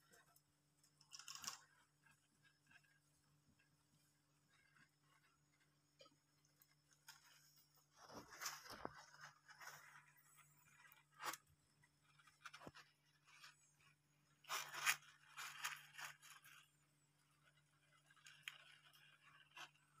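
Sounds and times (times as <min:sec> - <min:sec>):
hamsters rustling in bedding: 0:01.1 - 0:20.0.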